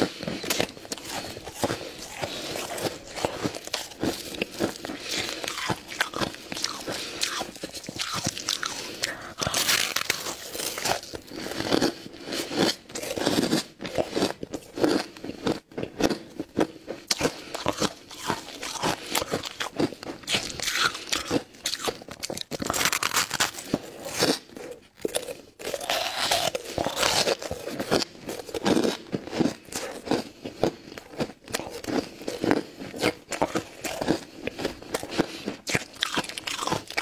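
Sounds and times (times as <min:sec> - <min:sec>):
chewing crunchy ice: 0:00.0 - 0:37.0.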